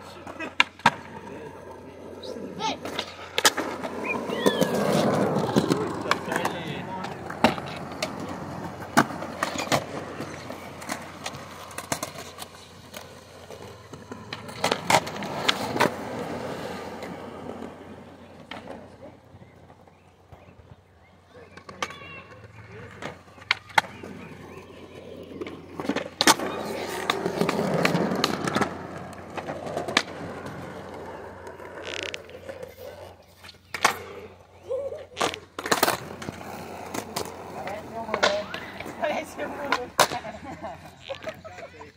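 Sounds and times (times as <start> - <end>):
skateboard clacking on ground: 0.0 - 34.4, 35.0 - 41.9
skateboard wheels rolling: 0.0 - 41.9.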